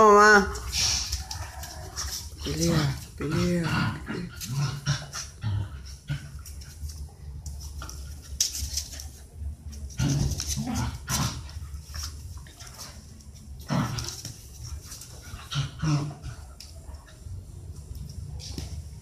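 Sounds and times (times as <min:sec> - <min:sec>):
dogs play-fighting vocalizations: 0:00.6 - 0:17.4.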